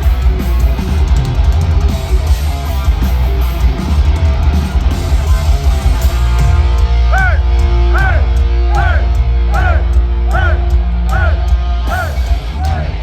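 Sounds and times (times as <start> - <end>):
bass guitar: 0.0 - 13.0
distorted electric guitars: 0.0 - 13.0
pounding drums: 0.0 - 13.0.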